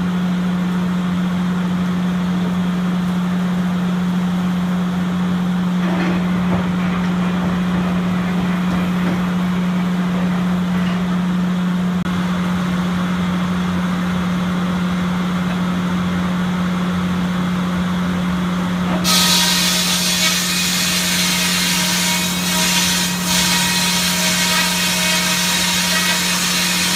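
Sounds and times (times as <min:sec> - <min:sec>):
sawmill machinery humming: 0:00.0 - 0:26.9.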